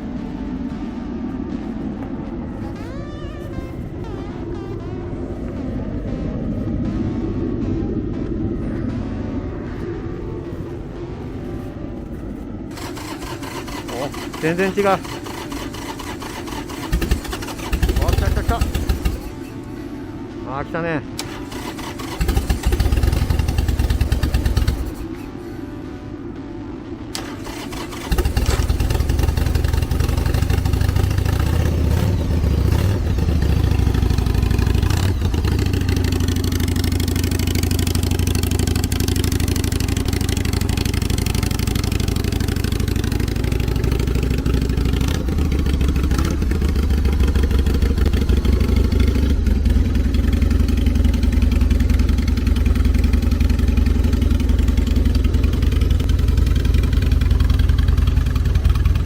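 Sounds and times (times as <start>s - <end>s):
motorcycle engine running: 0.0s - 20.4s, 21.1s - 26.2s, 27.1s - 59.0s.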